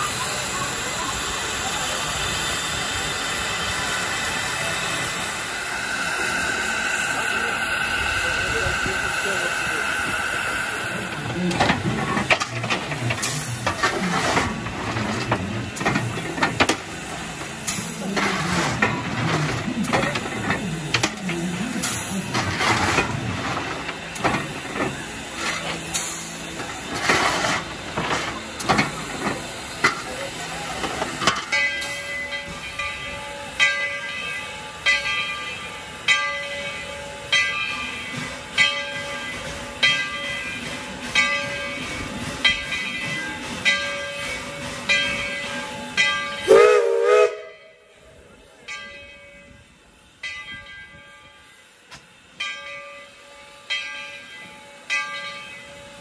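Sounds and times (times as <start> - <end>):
loud steam blasts: 0.0 - 33.6, 36.8 - 48.7
steam locomotive hissing: 0.0 - 56.0
locomotive bell ringing: 0.1 - 56.0.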